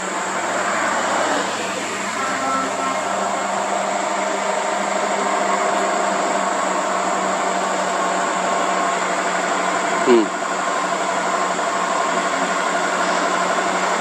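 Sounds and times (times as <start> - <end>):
truck diesel engine pulling uphill: 0.0 - 14.0.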